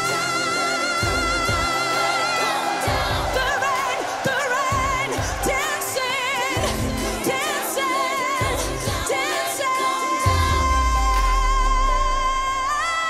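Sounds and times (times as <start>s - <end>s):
pop backing with pulsing bass: 0.0s - 13.0s
woman singing with vibrato: 0.0s - 13.0s.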